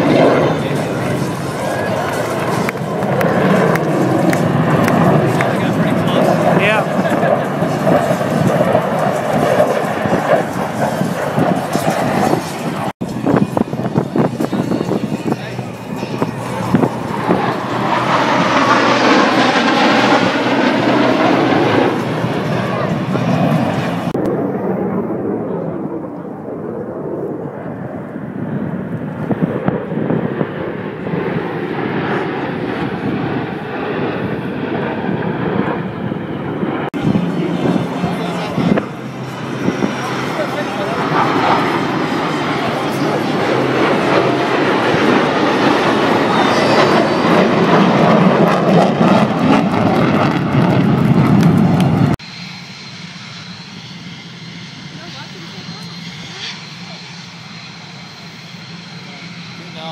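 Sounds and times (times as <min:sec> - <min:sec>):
jet aircraft roaring past: 0:00.0 - 0:59.9.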